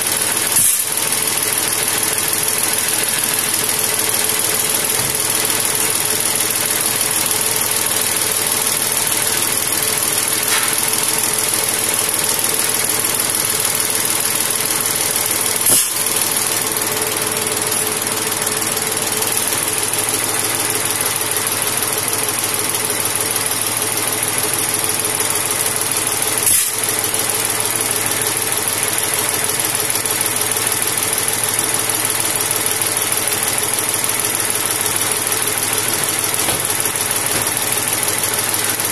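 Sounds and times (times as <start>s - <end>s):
diesel tractor engine idling: 0.0s - 38.9s.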